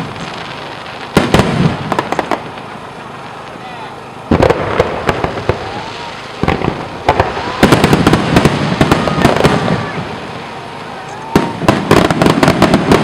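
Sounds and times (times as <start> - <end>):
fireworks bursting with sharp bangs: 0.0 - 13.0
rapid crackling fireworks bursts: 0.0 - 13.0.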